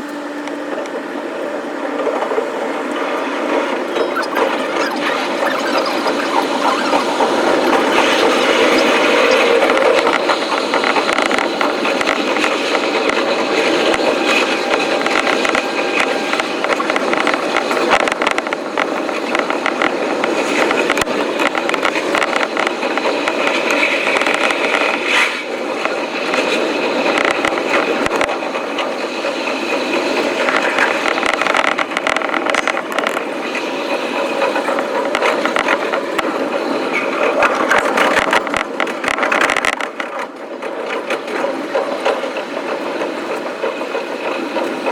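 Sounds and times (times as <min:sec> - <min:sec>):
sped-up train wheel rattle: 0:00.0 - 0:44.9.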